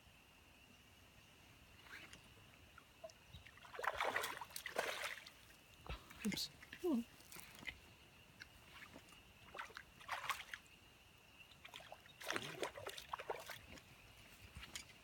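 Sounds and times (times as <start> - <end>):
creek water splashing: 1.8 - 15.0.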